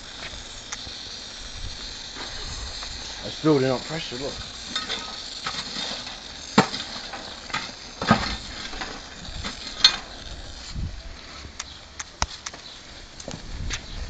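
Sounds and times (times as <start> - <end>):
can sizzling on coals: 0.0 - 14.0
crackles and pops: 0.0 - 14.0.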